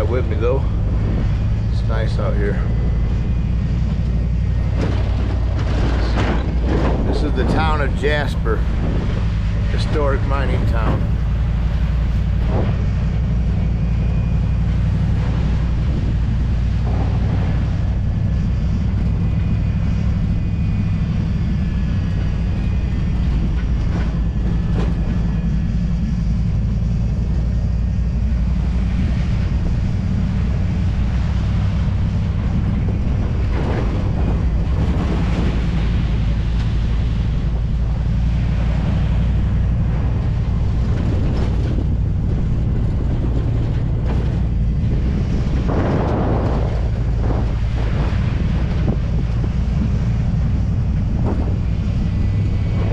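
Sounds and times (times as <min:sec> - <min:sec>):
pickup engine and road rumble: 0:00.0 - 0:52.9
wind on microphone: 0:00.0 - 0:52.9.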